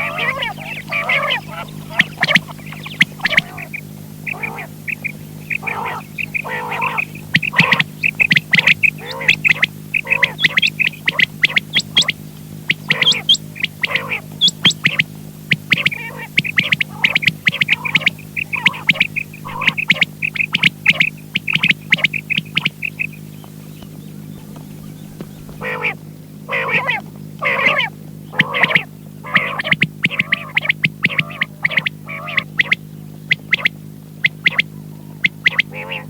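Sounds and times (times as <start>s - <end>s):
electrical hum: 0.0s - 36.0s
quail calling: 0.0s - 36.0s.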